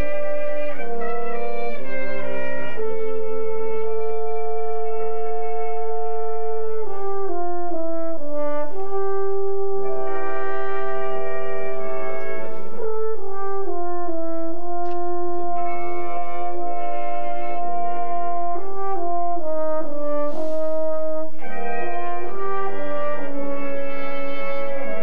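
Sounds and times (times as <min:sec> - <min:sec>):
brass quintet playing long notes: 0:00.0 - 0:25.0.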